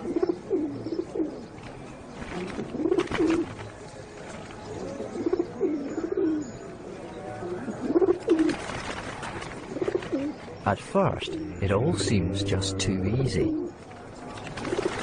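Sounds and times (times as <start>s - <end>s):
pigeons cooing: 0.0s - 13.8s, 14.4s - 15.0s.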